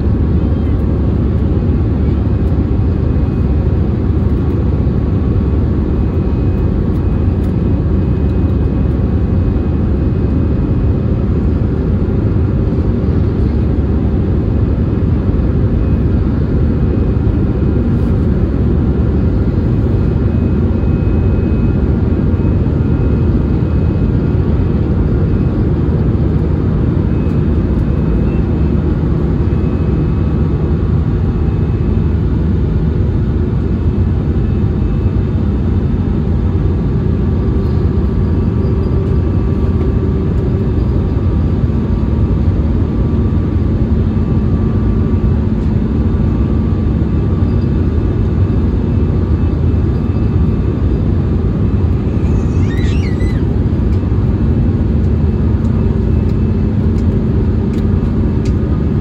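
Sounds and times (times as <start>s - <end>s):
high engine whine: 0.0s - 59.0s
jet engine drone in cabin: 0.0s - 59.0s.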